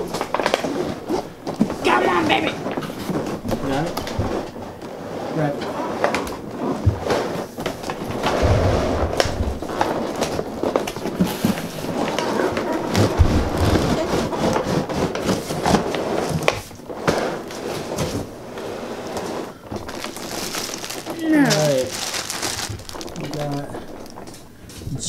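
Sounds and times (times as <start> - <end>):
plastic scraping against cardboard: 0.0 - 24.9.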